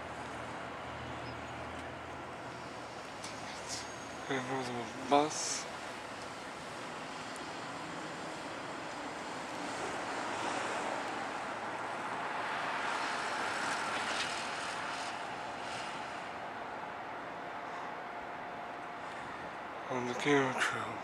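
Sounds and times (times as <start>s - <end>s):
thin steady whine: 0.0s - 21.0s.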